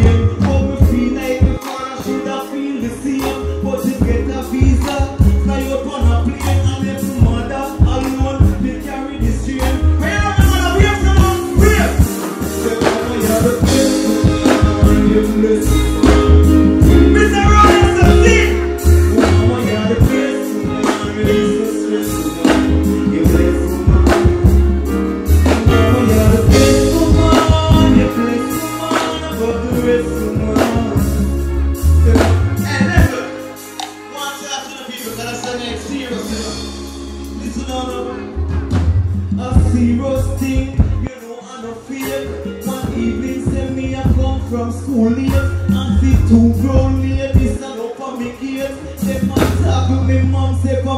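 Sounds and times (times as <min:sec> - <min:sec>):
loud music with heavy bass: 0:00.0 - 0:50.9
man singing into microphone: 0:00.0 - 0:50.9.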